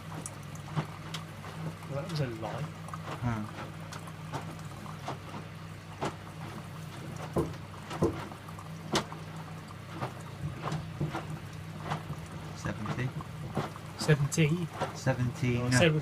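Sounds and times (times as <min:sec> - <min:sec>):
washing machine hum: 0:00.0 - 0:16.0
water sloshing: 0:00.0 - 0:16.0.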